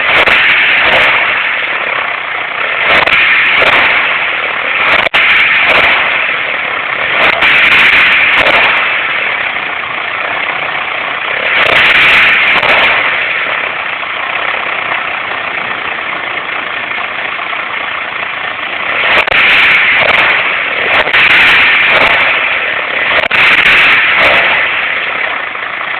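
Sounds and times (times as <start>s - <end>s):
car engine idling and revving: 0.0s - 25.9s
strange engine noise: 0.0s - 25.9s.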